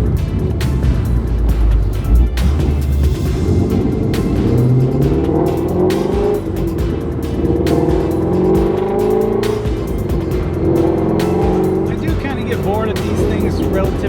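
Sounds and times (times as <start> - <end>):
car engine running under way: 0.0 - 14.0
music playing: 0.0 - 14.0.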